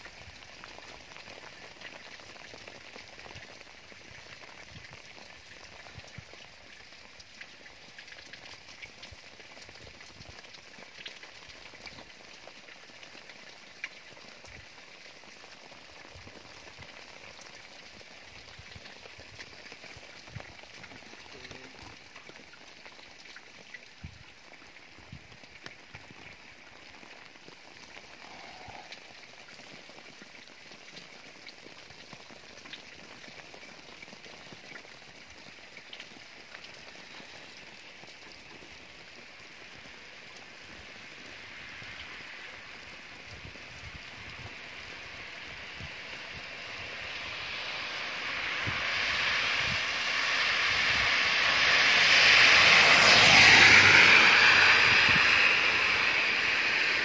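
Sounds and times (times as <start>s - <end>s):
wet snow pattering on a car: 0.0s - 57.0s.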